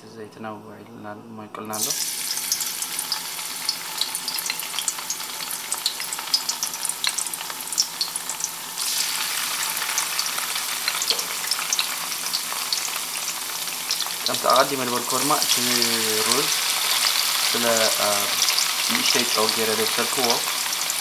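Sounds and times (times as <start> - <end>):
tofu sizzling in oil: 1.8 - 21.0.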